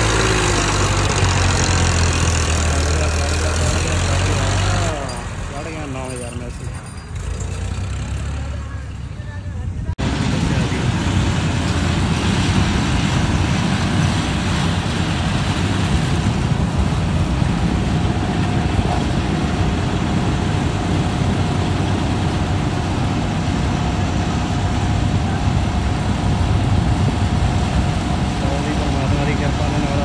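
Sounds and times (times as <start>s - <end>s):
combine harvester running: 0.0s - 30.0s
tractor engine running: 0.0s - 30.0s.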